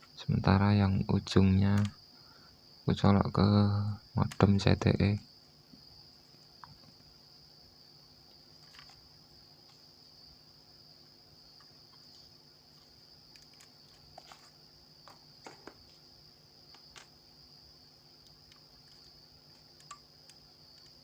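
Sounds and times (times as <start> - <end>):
faint high-pitched whine: 0.0 - 21.0.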